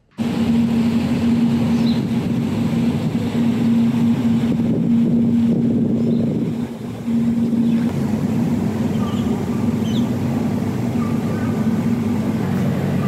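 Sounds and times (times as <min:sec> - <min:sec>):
constant low hum: 0:00.0 - 0:13.0
low rumble: 0:00.0 - 0:13.0.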